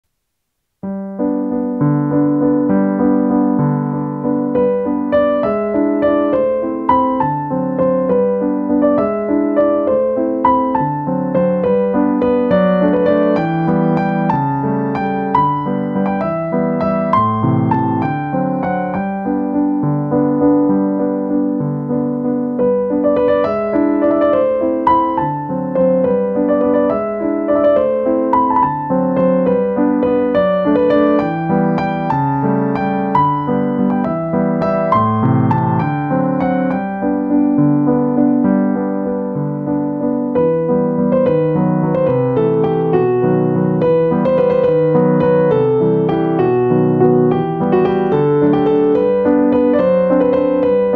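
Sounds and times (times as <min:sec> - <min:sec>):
piano music: 0:00.6 - 0:50.9.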